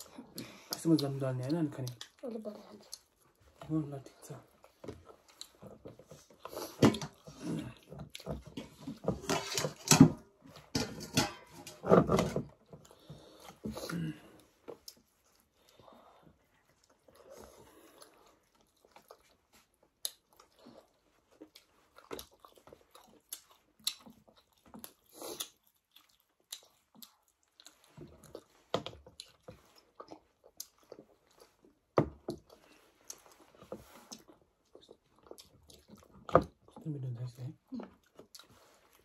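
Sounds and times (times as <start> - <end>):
people chewing: 0.0 - 39.0.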